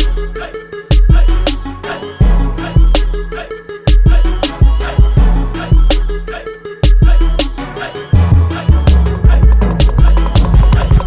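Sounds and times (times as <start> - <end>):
music with deep bass and drums: 0.0 - 11.0.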